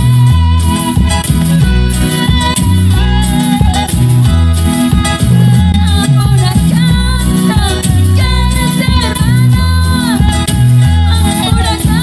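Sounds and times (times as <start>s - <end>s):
woman singing: 0.0s - 4.1s, 4.9s - 12.0s
bass line: 0.0s - 12.0s
keyboards: 0.0s - 12.0s
percussion: 0.0s - 12.0s.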